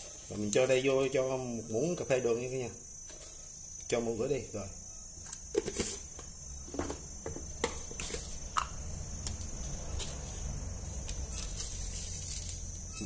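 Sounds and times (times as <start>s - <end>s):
insect chirring: 0.0s - 13.0s.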